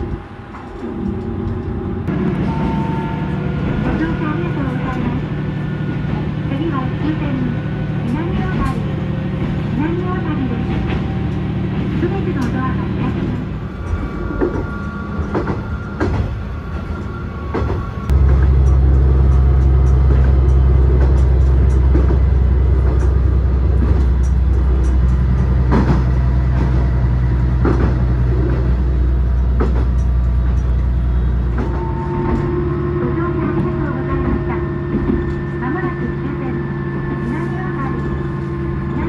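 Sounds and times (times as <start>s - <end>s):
railcar engine drone: 0.0s - 39.0s.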